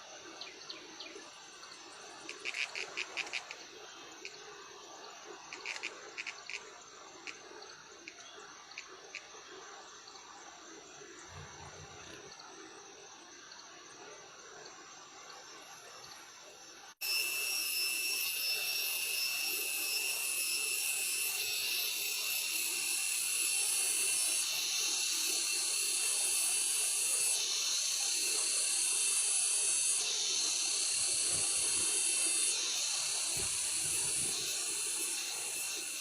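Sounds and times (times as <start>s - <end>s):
cicadas droning: 0.0s - 36.0s.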